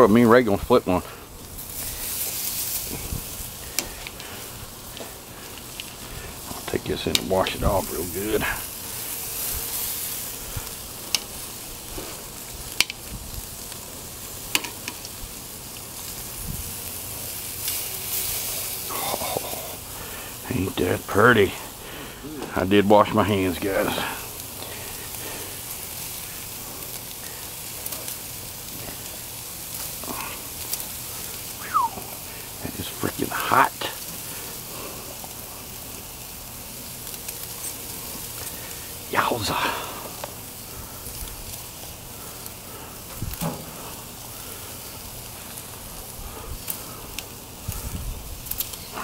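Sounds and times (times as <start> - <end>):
sharp crackles and pops: 0.0 - 49.0
steaks sizzling on a grill: 0.0 - 49.0.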